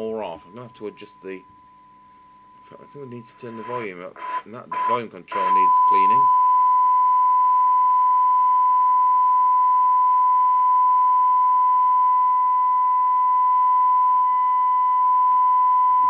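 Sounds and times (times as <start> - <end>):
steady test tone: 0.0 - 16.0.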